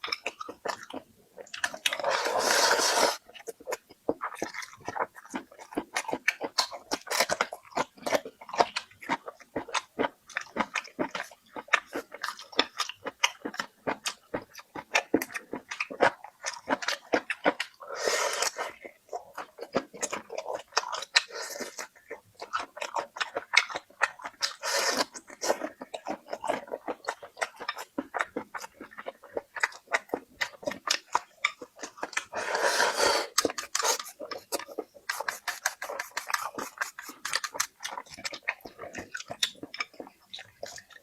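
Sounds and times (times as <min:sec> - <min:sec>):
crunchy rustling chewing: 0:00.0 - 0:41.0
wet chewing mouth clicks: 0:00.0 - 0:41.0.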